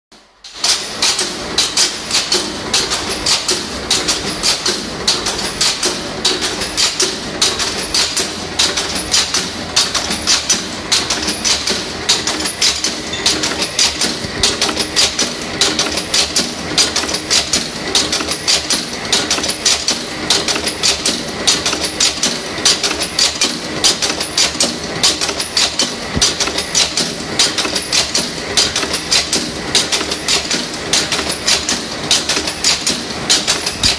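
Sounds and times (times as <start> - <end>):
rivet machine striking metal: 0.2 - 33.9.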